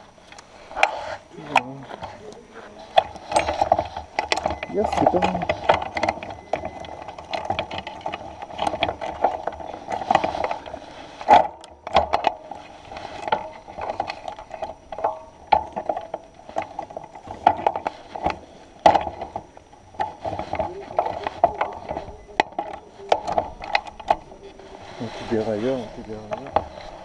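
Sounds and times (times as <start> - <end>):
mountain bike clicking and rattling: 0.0 - 27.0.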